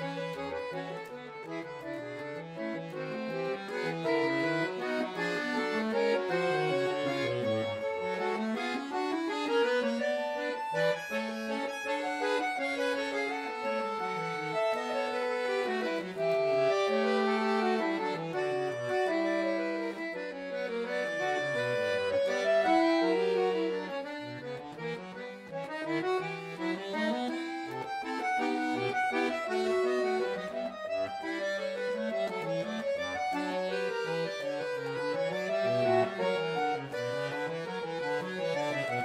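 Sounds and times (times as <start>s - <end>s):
button accordion playing: 0.0s - 39.0s.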